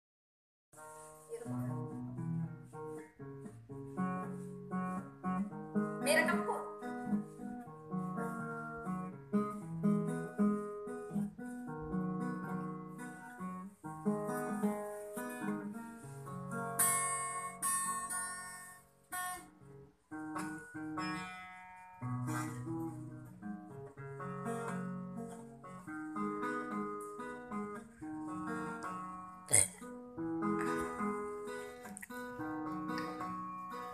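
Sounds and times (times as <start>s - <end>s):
acoustic guitar melody: 0.8s - 33.9s.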